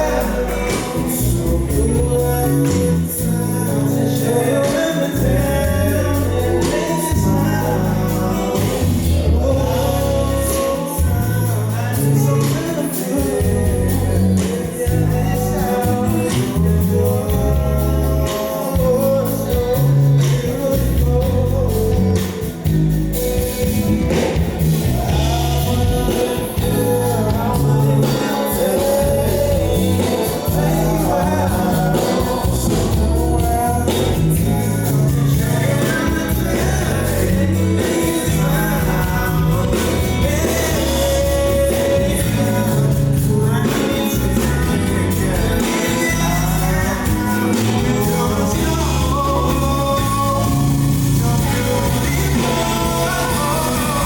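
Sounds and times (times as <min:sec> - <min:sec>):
bass guitar: 0:00.0 - 0:54.0
drums: 0:00.0 - 0:54.0
guitar: 0:00.0 - 0:54.0
person singing: 0:00.0 - 0:54.0.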